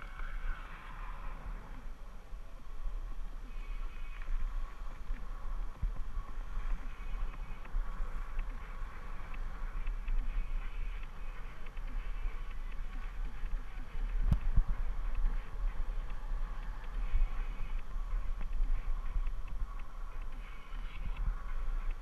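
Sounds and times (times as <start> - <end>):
bicycle ticks and rattles: 0.0 - 22.0
faint steady whine: 0.0 - 22.0
wind buffeting microphone: 0.0 - 22.0.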